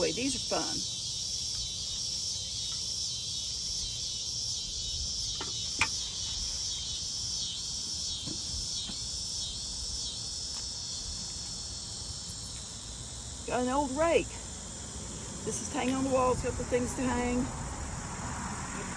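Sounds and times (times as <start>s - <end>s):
cicadas singing: 0.0s - 18.9s.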